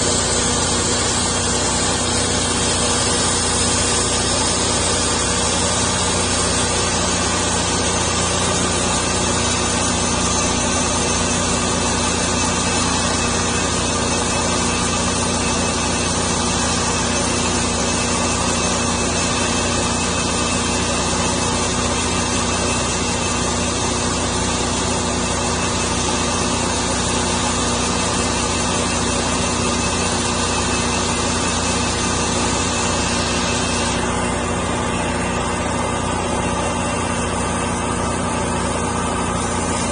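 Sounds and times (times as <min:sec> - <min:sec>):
saw blade hissing through log: 0:00.0 - 0:39.9
sawmill engine running: 0:00.0 - 0:39.9.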